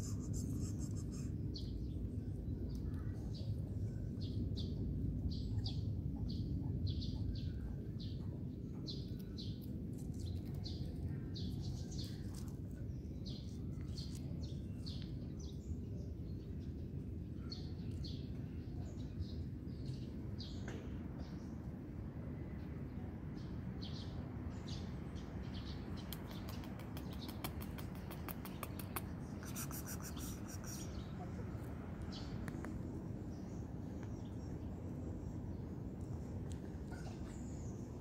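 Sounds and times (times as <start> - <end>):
small birds chirping: 0.0 - 21.7, 22.4 - 38.0
low outdoor rumble: 0.0 - 38.0.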